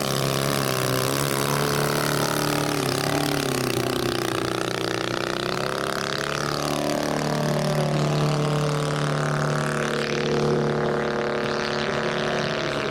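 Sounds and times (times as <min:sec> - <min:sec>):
model aircraft engine: 0:00.0 - 0:12.9.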